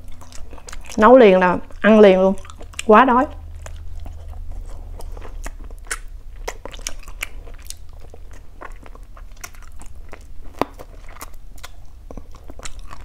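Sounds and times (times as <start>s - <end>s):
low hum: 0.0s - 13.0s
person chewing and crunching: 0.0s - 13.0s.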